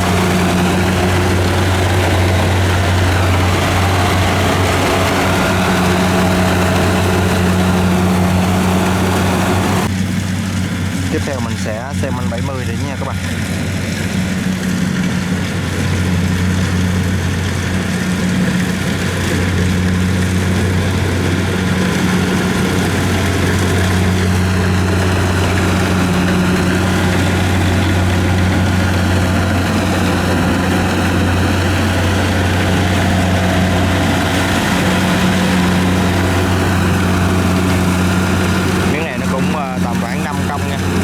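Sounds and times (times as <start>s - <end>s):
combine harvester engine running: 0.0s - 41.0s.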